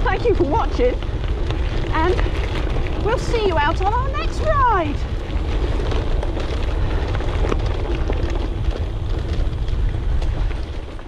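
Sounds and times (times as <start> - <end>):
bike tyres rattling on rough ground: 0.0 - 11.0
wind buffeting microphone: 0.0 - 11.0.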